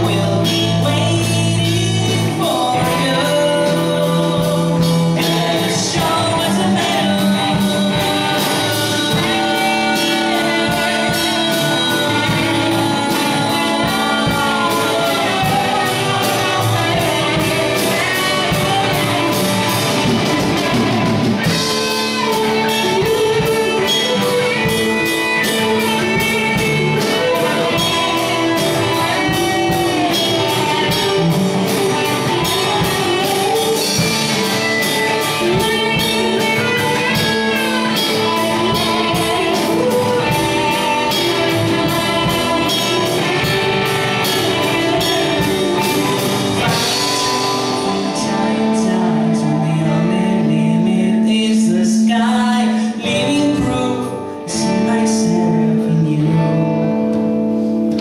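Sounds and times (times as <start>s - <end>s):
drum kit beat: 0.0s - 51.3s
man singing: 0.0s - 57.3s
electric guitars: 0.0s - 58.0s.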